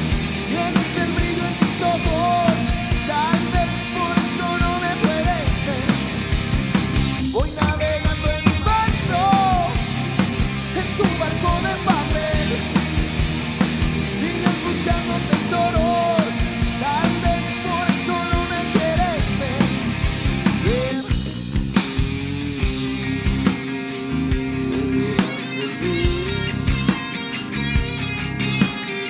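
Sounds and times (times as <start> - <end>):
bass guitar: 0.0 - 29.0
drum kit with cymbals: 0.0 - 29.0
electric guitar lead: 0.0 - 29.0.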